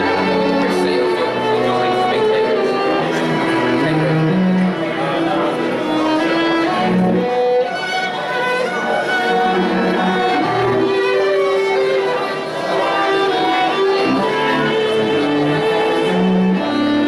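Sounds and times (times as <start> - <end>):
lower bowed strings: 0.0 - 17.0
violin: 0.0 - 17.0.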